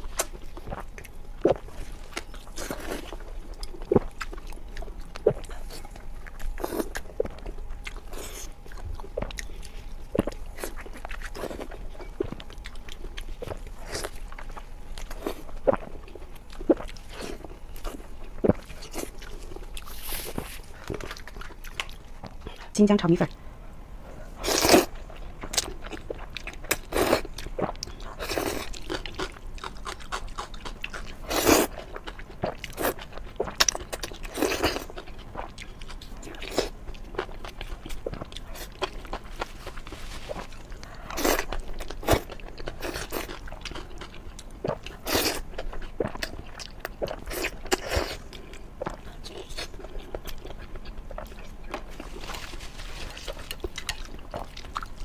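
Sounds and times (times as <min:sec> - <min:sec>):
crunchy chewing: 0:00.0 - 0:22.7, 0:24.1 - 0:55.0.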